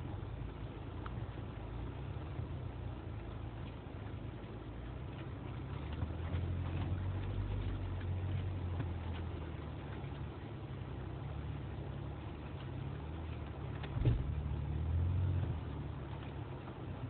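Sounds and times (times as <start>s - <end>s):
car engine at low revs: 0.0s - 17.0s.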